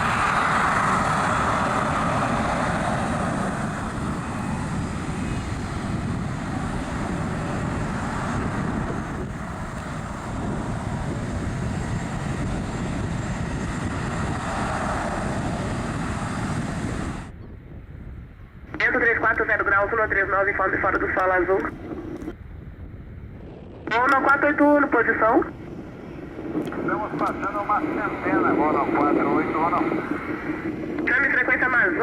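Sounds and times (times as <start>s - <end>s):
jet engine roar: 0.0s - 32.0s.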